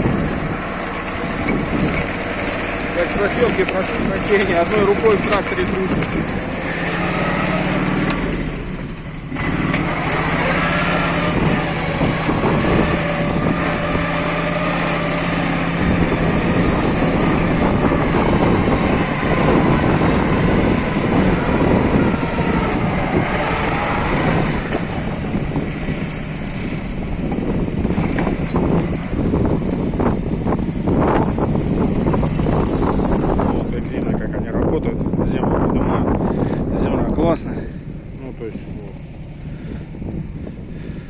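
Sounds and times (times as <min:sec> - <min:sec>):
tractor engine under load: 0:00.0 - 0:41.0
wind buffeting microphone: 0:00.0 - 0:41.0.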